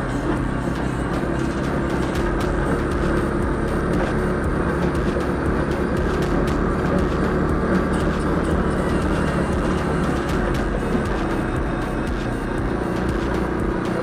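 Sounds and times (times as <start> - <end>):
moped engine running: 0.0 - 14.0
road and wind noise: 0.0 - 14.0.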